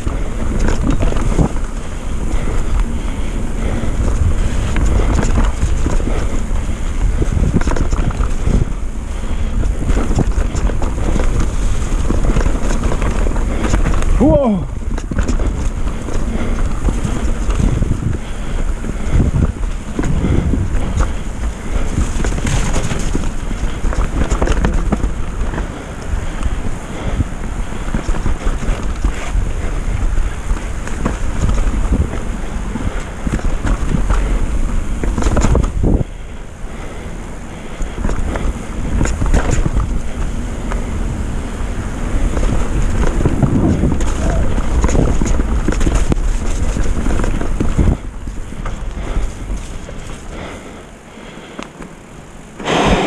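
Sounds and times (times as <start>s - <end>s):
bike rattling over roots: 0.0s - 53.0s
wind buffeting microphone: 0.0s - 53.0s.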